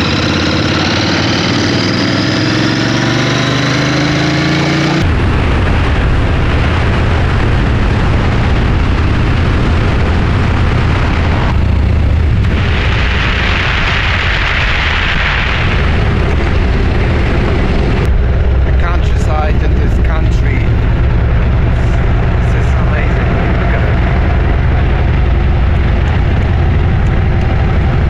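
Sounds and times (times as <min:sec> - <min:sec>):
motorcycle engine running: 0:00.0 - 0:28.0
road noise: 0:00.0 - 0:28.0
wind buffeting on microphone: 0:04.9 - 0:28.0.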